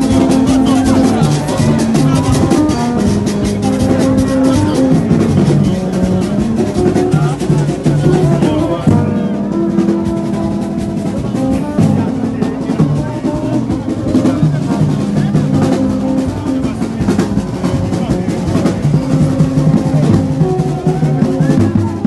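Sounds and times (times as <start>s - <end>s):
drums in fast rhythm: 0.0s - 22.0s.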